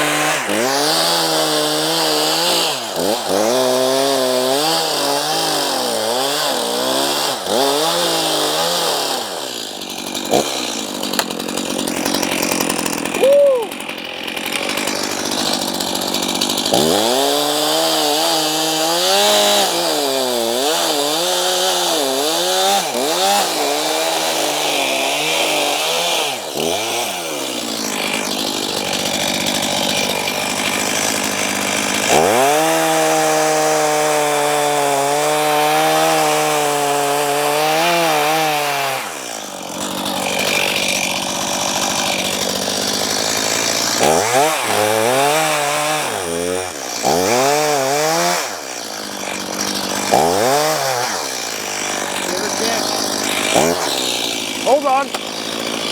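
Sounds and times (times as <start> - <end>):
chainsaw running at high revs: 0.0 - 55.9.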